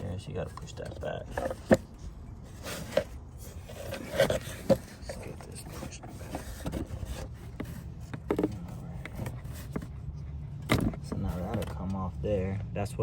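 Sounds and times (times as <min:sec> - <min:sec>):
plastic rubbing: 0:00.0 - 0:11.8.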